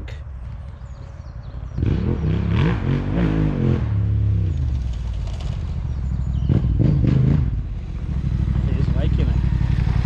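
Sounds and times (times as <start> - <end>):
motorcycle engine revving: 1.7 - 10.0.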